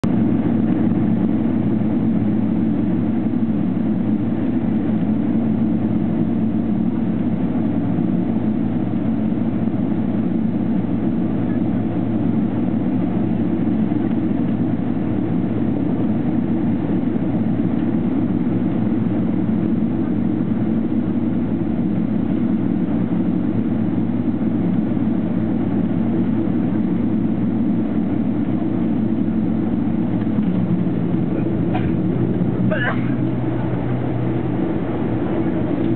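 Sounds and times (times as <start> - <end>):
jet engine drone inside cabin: 0.0 - 35.9.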